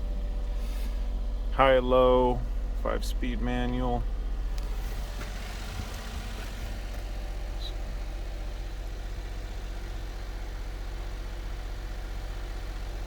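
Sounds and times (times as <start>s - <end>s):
small truck engine idling: 0.0s - 13.0s.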